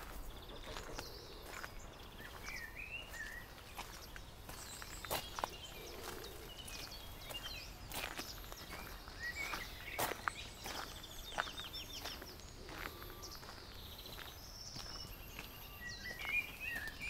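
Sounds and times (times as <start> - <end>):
birds singing: 0.0 - 17.0
footsteps on gravel: 0.0 - 17.0.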